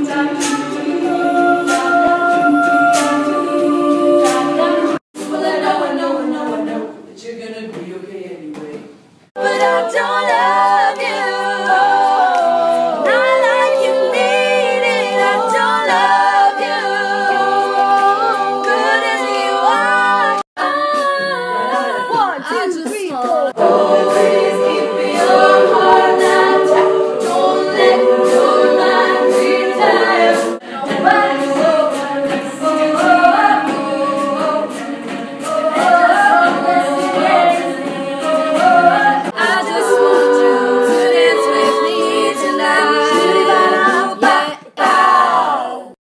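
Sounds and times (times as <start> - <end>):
female a cappella harmony singing: 0.0 - 7.1, 9.4 - 46.0.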